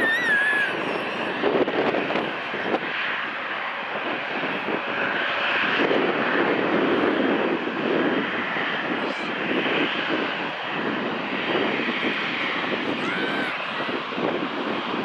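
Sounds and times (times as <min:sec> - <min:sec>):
airliner engines rushing: 0:00.0 - 0:15.0.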